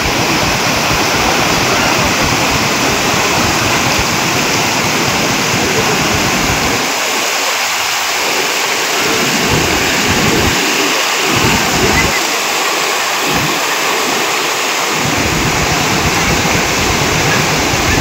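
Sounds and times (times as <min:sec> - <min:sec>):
turbulent floodwater rushing: 0:00.0 - 0:18.0.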